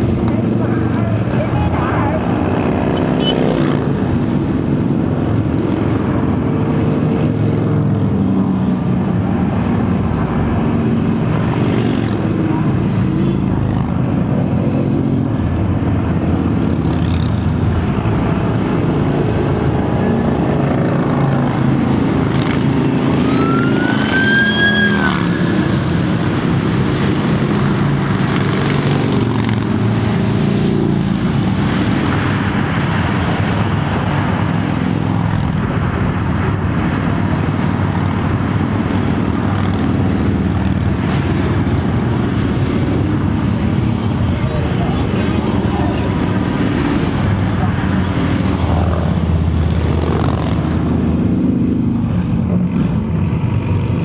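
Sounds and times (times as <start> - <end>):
motorcycles riding past: 0.0 - 54.0.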